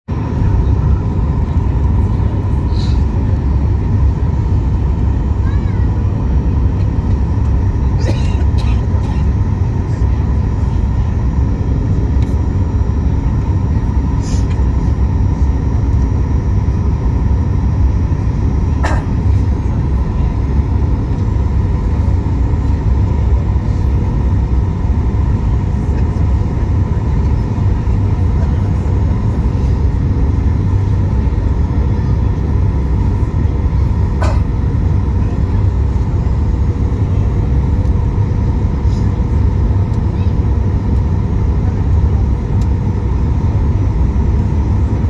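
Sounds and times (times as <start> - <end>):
airliner cabin engine rumble: 0.1 - 45.0.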